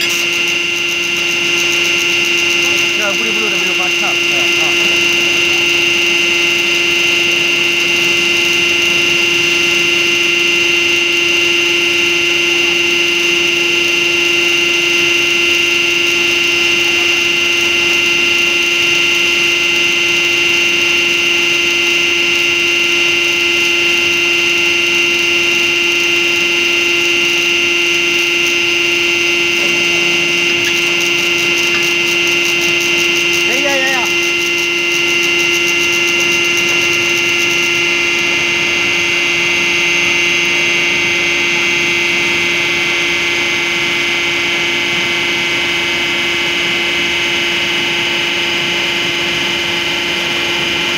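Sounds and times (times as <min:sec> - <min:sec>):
hydraulic pump whine: 0:00.0 - 0:50.9.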